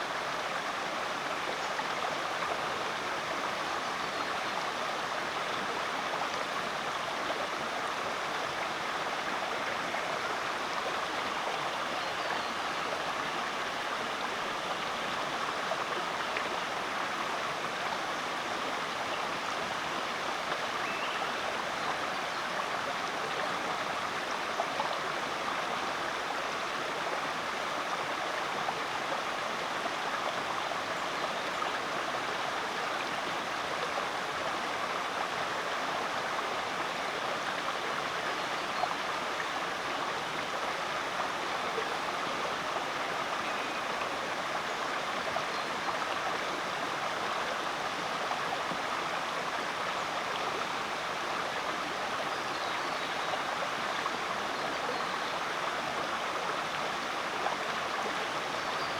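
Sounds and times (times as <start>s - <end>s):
creek running over rocks: 0.0s - 58.9s.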